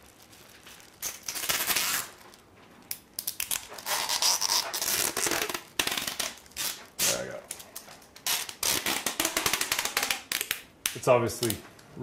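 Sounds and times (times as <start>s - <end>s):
tape ripping off roll: 0.0s - 11.6s.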